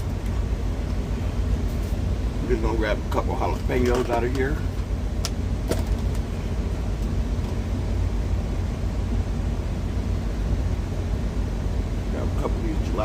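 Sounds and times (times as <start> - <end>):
truck machinery rumbling: 0.0 - 13.0.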